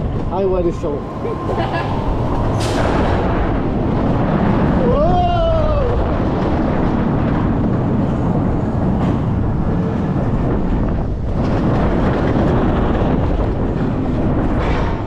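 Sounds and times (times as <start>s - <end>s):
roller coaster rumbling on track: 0.0s - 15.0s
wind buffeting microphone: 0.0s - 15.0s.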